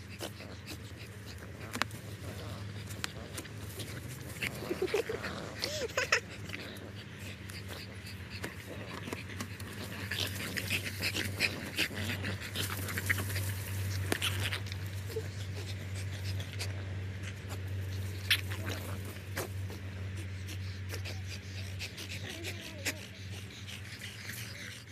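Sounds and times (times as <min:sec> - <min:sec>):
dog panting and snuffling: 0:00.0 - 0:24.9
low steady hum: 0:00.0 - 0:24.9.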